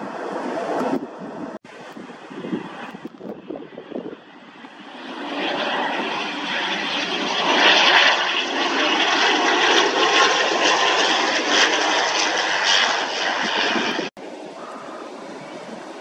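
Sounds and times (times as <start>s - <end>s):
turboprop airliner landing: 0.0s - 16.0s.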